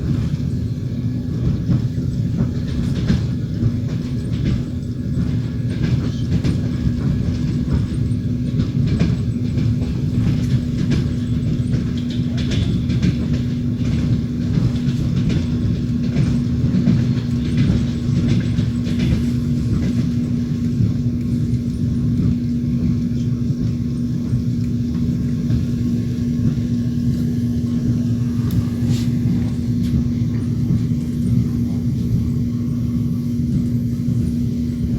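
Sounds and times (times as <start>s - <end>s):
steady low hum: 0.0s - 34.9s
train wheels rumbling on rails: 0.0s - 34.9s
wheels clicking over track: 0.0s - 34.9s.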